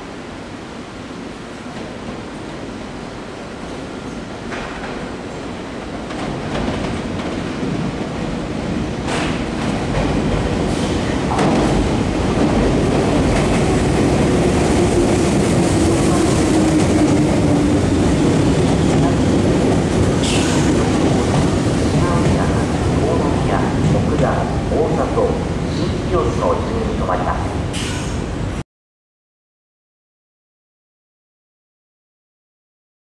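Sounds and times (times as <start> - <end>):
electric train pulling in: 0.0 - 28.6.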